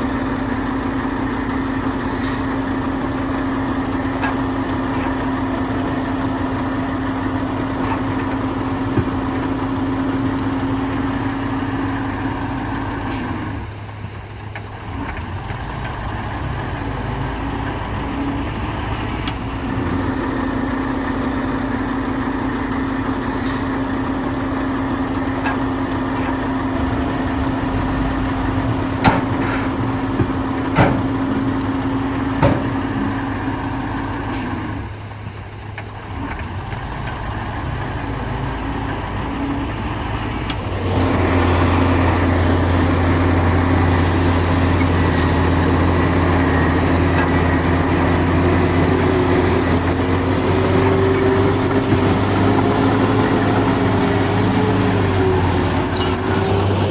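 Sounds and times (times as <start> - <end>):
diesel earthmoving machinery running: 0.0 - 56.9.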